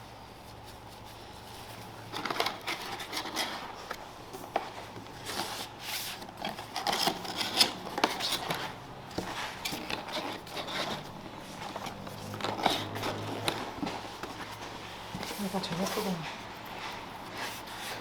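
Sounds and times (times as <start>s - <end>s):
rustling and scraping: 0.0s - 18.0s.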